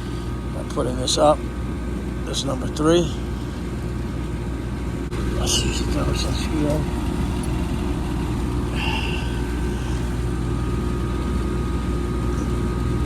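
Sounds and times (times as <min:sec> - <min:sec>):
heat pump humming: 0:00.0 - 0:13.0.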